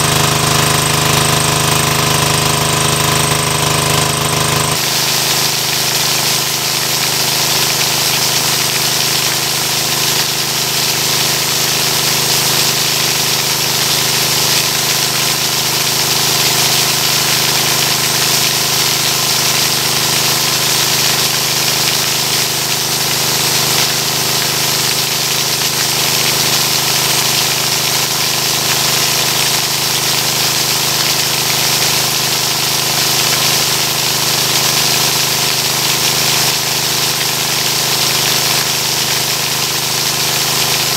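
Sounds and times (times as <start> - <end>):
water jet splashing on grass: 0.0 - 40.9
water pump engine running: 0.0 - 40.9.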